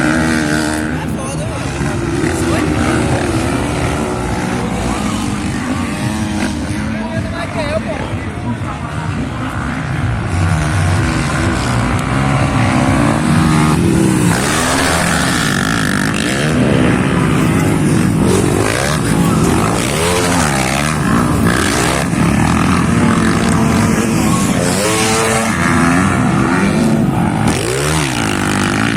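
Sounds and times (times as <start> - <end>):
motocross bikes revving: 0.0 - 28.9.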